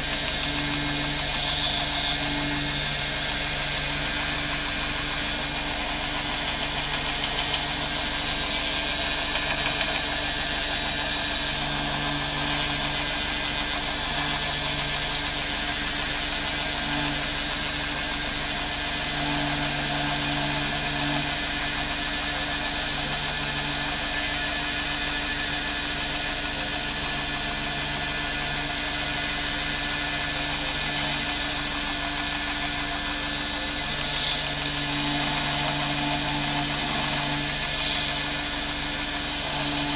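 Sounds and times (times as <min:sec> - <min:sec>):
belt grinder motor hum: 0:00.0 - 0:39.9
grinding hiss: 0:00.0 - 0:39.9.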